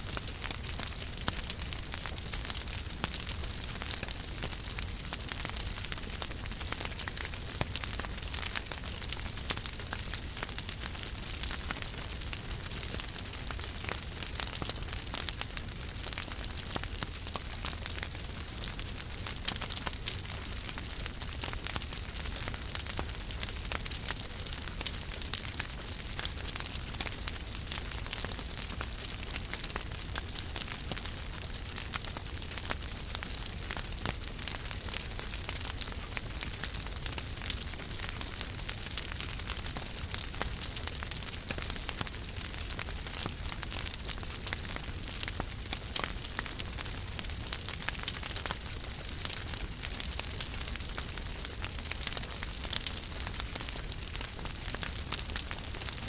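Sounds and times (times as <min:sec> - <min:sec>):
fire snaps and pops: 0:00.0 - 0:56.0
wood fire crackling: 0:00.0 - 0:56.0.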